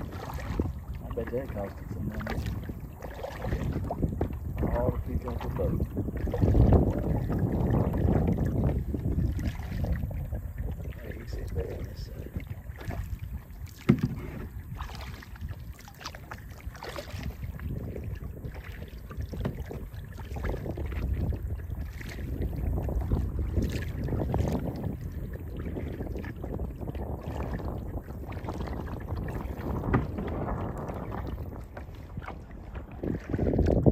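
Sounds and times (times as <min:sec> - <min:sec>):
paddle splashing water: 0:00.0 - 0:33.9.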